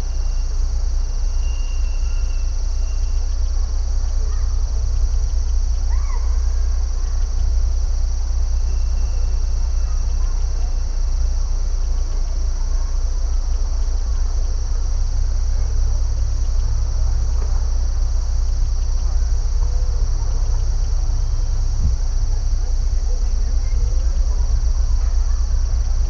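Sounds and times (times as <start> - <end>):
crickets chirping chorus: 0.0 - 26.0
faint bird chirps: 0.0 - 26.0
low rumble: 0.0 - 26.0.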